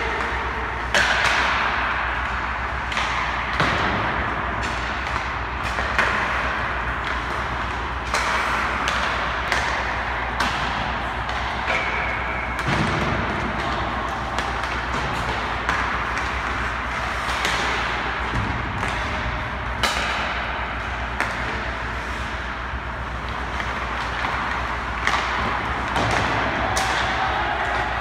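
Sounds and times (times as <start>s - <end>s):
sharp cracks of stick on puck: 0.0s - 22.6s, 23.2s - 28.0s
steady low hum: 0.0s - 28.0s.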